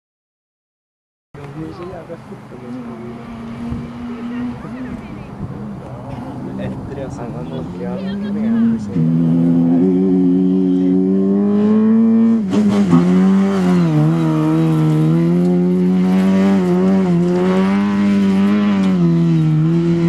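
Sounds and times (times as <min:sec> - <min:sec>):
rally car engine revving: 0:02.1 - 0:20.0.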